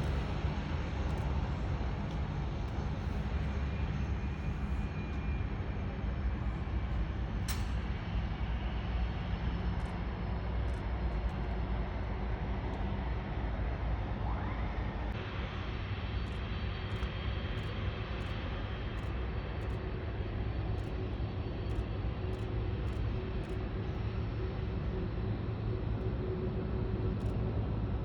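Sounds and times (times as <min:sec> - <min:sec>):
jet airliner engine rumble: 0:00.0 - 0:28.0.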